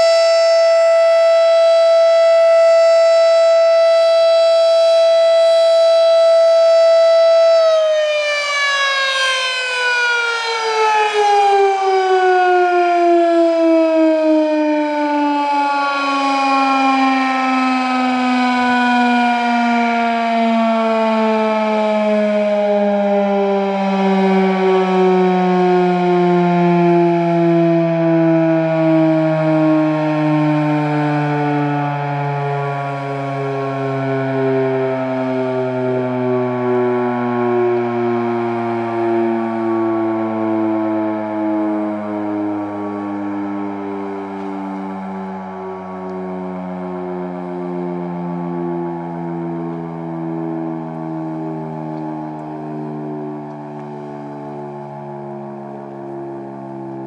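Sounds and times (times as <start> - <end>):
mechanical siren winding down: 0.0 - 57.0.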